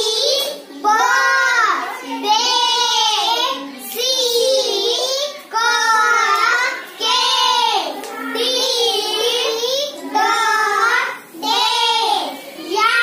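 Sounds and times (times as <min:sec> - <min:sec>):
children chanting syllables: 0:00.0 - 0:13.0.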